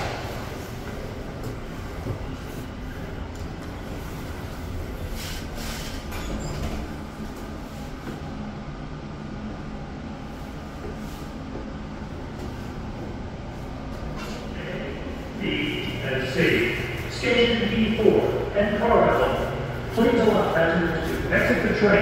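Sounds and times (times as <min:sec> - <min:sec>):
monorail car rumbling: 0:00.0 - 0:22.0.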